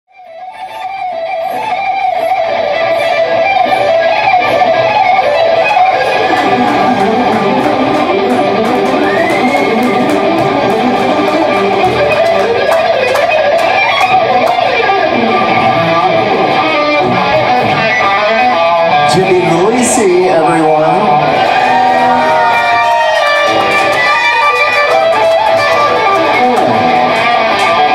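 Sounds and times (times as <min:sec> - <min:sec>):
electric guitars: 0:00.1 - 0:27.9.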